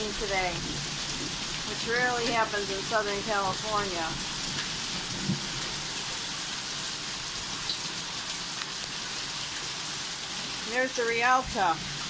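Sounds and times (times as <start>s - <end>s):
hail and rain on pavement: 0.0s - 12.0s.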